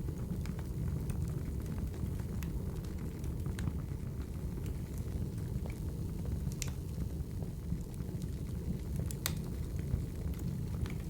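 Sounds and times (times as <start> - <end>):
fire crackles: 0.0 - 11.0
wood fire rumbling: 0.0 - 11.0.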